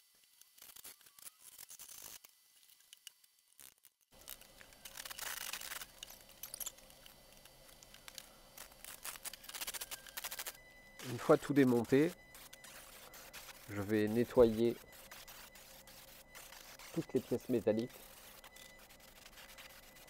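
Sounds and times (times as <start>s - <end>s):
hand tool scraping and tearing: 0.4s - 20.0s.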